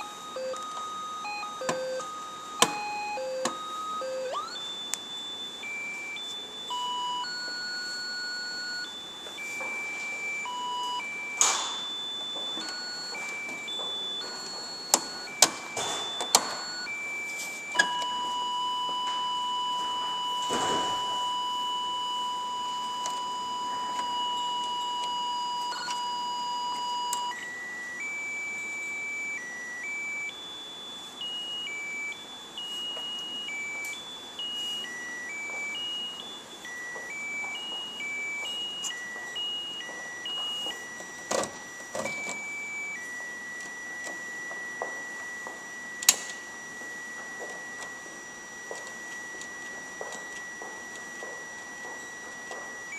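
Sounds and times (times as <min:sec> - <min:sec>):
electronic beeping melody: 0:00.0 - 0:52.9.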